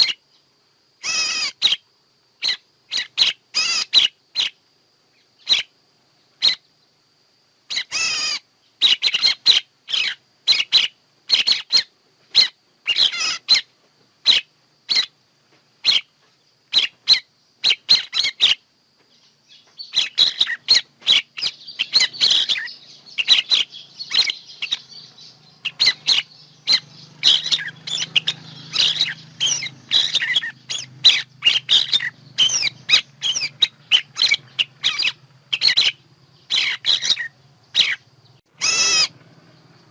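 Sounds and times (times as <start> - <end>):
bird chirps and trills: 0.0 - 7.0, 7.7 - 15.2, 15.8 - 39.9
faint low hum: 0.0 - 39.9.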